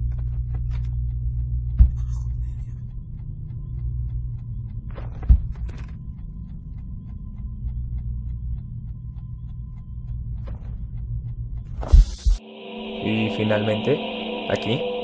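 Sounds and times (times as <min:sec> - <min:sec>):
faint clicks: 0:00.0 - 0:12.4
low rumble: 0:00.0 - 0:15.0.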